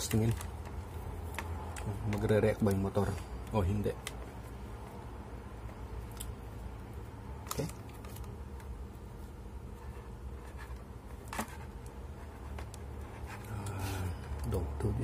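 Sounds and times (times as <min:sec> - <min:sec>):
steady low hum: 0:00.0 - 0:15.0
wires being twisted by hand: 0:00.0 - 0:15.0.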